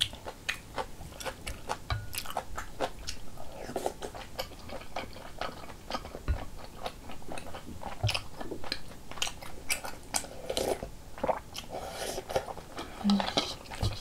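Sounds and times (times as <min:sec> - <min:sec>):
wet chewing and mouth clicks: 0:00.0 - 0:14.0.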